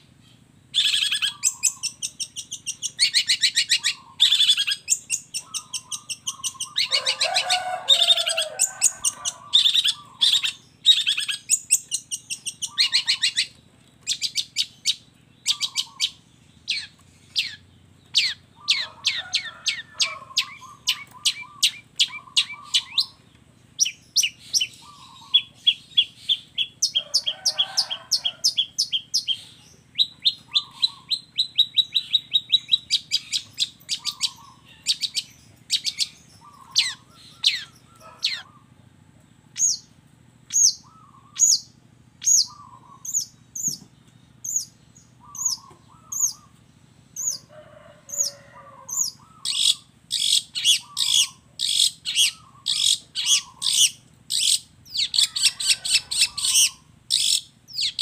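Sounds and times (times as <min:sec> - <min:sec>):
harsh bird calls: 0:00.0 - 0:58.0.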